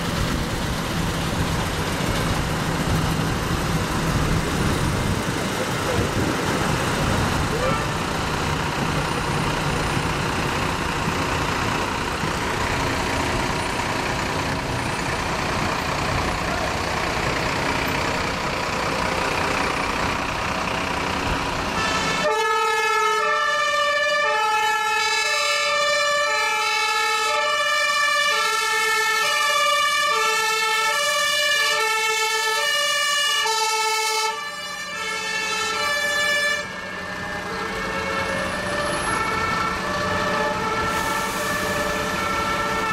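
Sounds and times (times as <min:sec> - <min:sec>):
truck engines rumbling: 0:00.0 - 0:42.9
two-tone sirens: 0:03.3 - 0:42.9.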